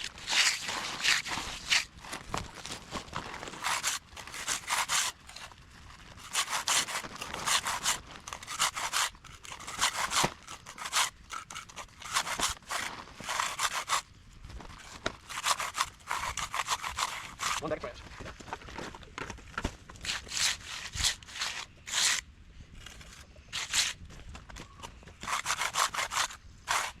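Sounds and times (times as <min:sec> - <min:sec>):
tool scraping over concrete: 0:00.0 - 0:18.4, 0:19.9 - 0:22.2, 0:22.8 - 0:27.0.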